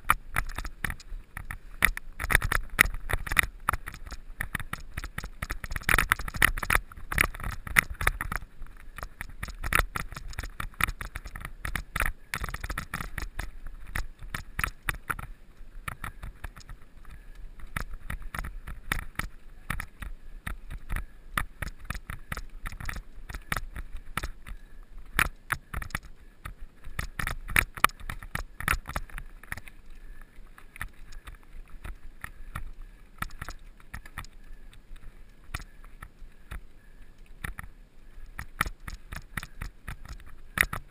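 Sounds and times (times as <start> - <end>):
low rumble of tyres on ground: 0.0 - 40.9.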